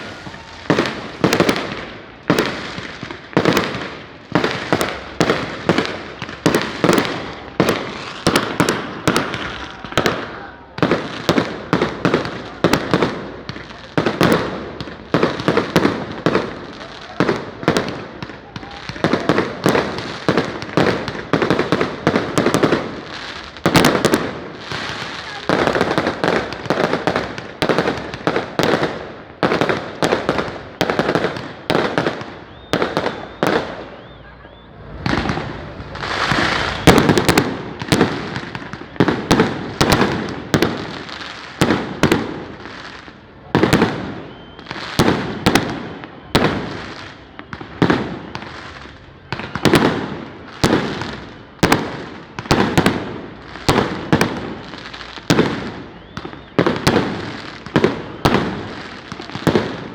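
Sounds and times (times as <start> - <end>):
firecrackers banging: 0.0 - 59.9.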